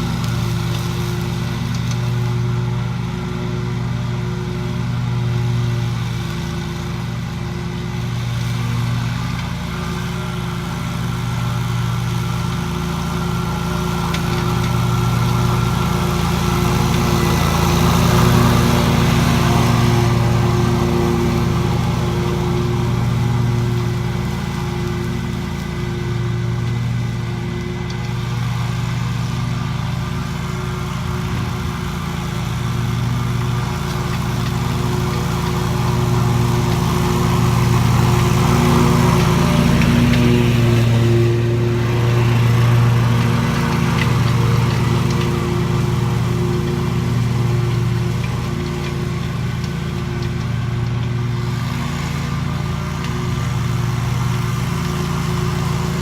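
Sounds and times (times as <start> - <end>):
engine droning: 0.0 - 56.0.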